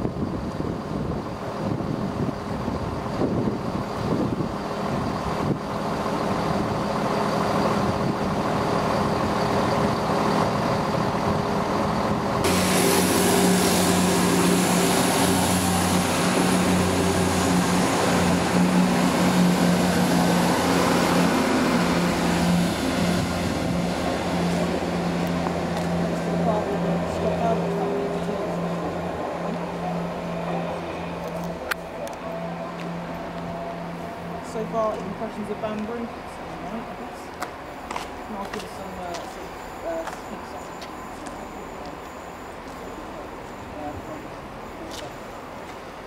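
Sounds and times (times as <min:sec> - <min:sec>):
diesel train engines droning: 0:00.0 - 0:46.0.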